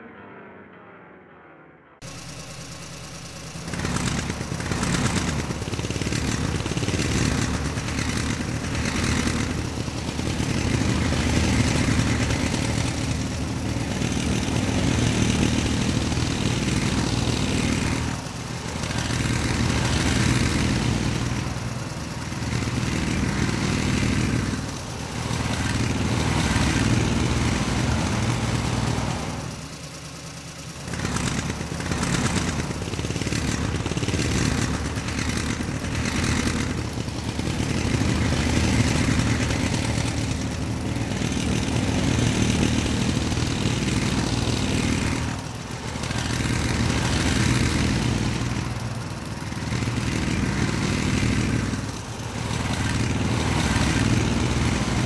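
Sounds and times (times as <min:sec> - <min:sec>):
engine running: 0:02.0 - 0:55.0.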